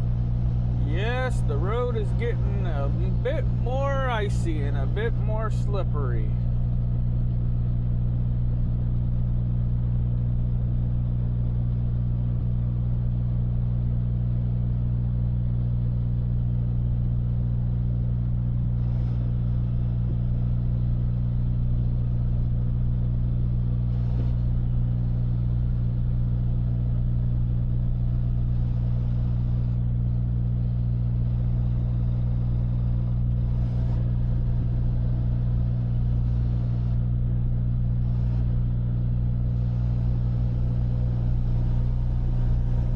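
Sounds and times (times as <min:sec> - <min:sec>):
truck diesel engine drone: 0:00.0 - 0:42.9.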